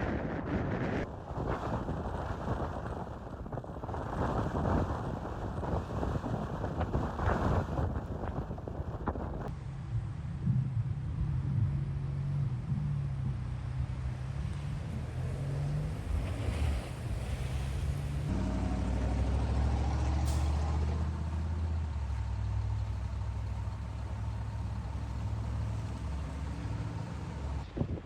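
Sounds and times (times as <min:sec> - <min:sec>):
heavy vehicle engines humming: 0:00.0 - 0:28.0.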